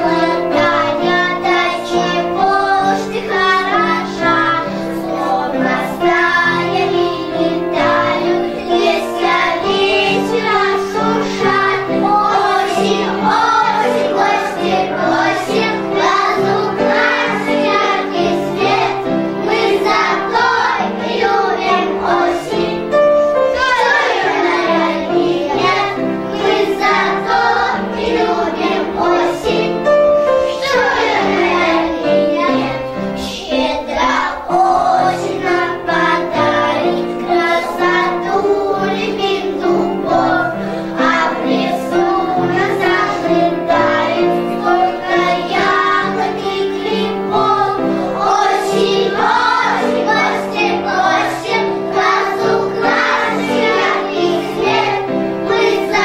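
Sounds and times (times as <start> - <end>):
children singing: 0.0 - 56.0
instrumental backing track: 0.0 - 56.0.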